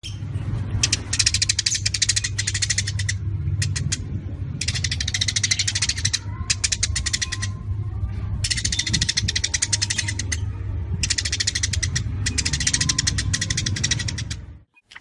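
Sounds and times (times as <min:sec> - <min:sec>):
steady low hum: 0:00.0 - 0:14.7
sparrows chirping: 0:00.0 - 0:15.0.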